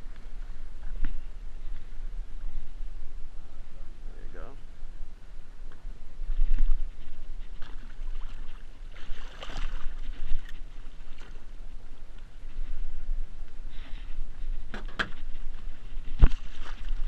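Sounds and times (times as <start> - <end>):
low microphone rumble: 0.0 - 17.0.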